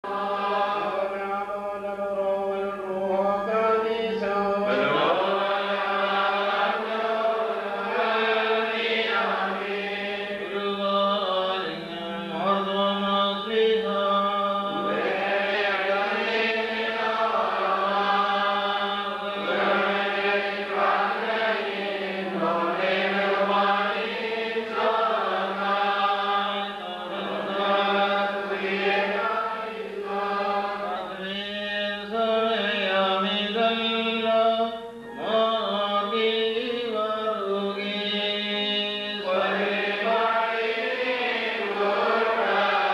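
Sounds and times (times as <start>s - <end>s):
voices chanting a melody: 0.0s - 42.9s.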